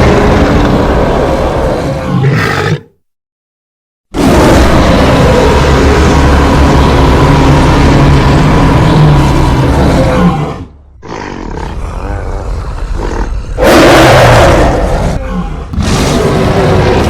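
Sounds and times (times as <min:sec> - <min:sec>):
monster roars: 0:00.0 - 0:02.9, 0:04.1 - 0:17.0.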